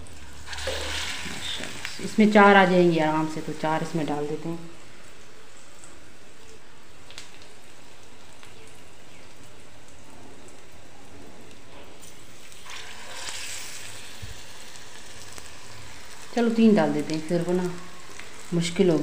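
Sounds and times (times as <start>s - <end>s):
hot oil sizzling in a pan: 0.0s - 19.0s.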